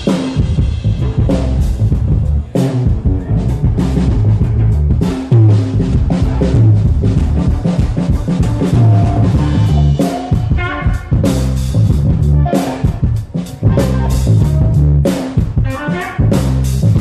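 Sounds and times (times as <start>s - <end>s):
live blues-rock band playing: 0.0s - 17.0s.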